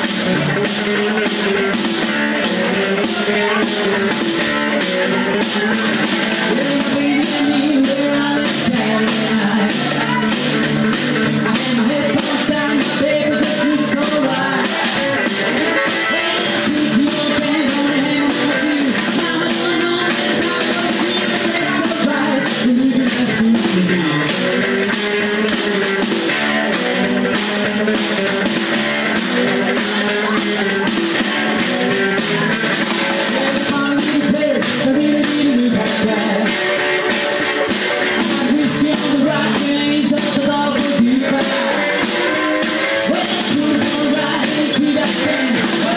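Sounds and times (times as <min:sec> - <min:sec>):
electric guitar: 0:00.0 - 0:45.9
man singing: 0:00.0 - 0:45.9.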